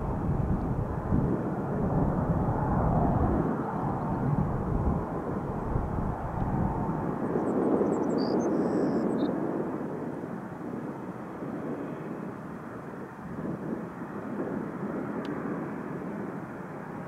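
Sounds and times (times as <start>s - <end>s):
jet airliner engines rumbling: 0.0s - 17.0s.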